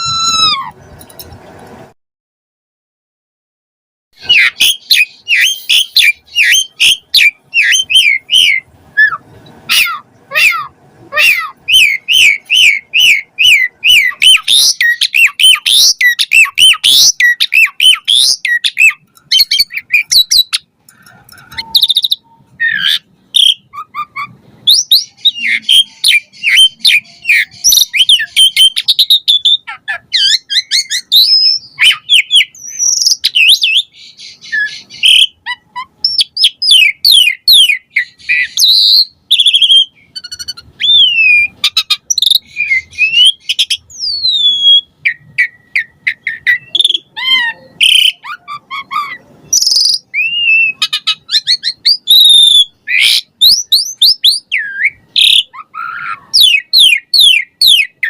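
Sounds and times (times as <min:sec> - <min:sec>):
starling singing: 0:00.0 - 0:01.1, 0:04.2 - 0:58.0.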